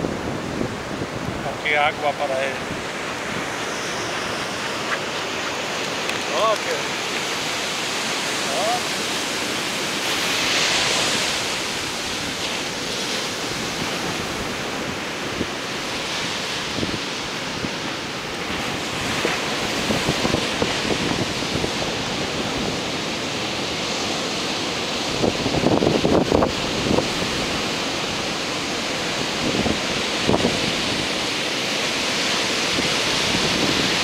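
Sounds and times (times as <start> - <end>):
surf breaking on beach: 0.0 - 34.0
wind buffeting microphone: 0.0 - 34.0.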